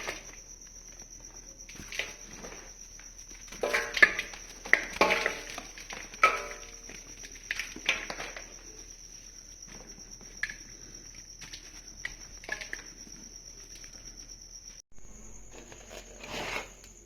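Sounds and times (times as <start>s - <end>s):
dried mud crunching: 0.0s - 14.8s.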